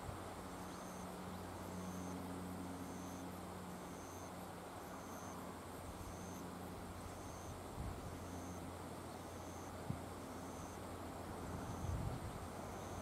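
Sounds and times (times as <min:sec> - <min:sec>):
low steady hum: 0:00.0 - 0:13.0
insect chirping rhythmically: 0:00.6 - 0:10.9, 0:11.6 - 0:13.0.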